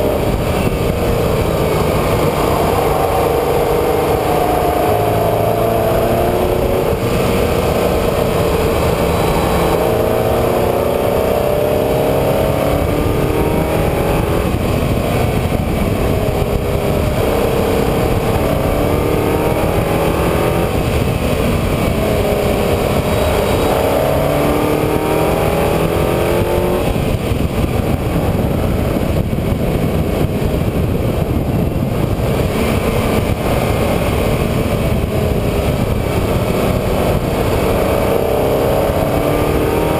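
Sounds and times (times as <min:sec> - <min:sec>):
engine revving under acceleration: 0:00.0 - 0:39.9
heavy rumble: 0:00.0 - 0:39.9.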